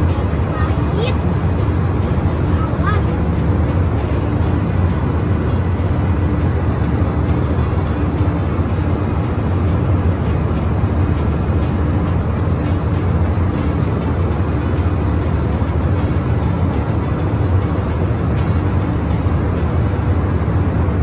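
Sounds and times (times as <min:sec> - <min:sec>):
airliner engine and airflow drone: 0:00.0 - 0:21.0.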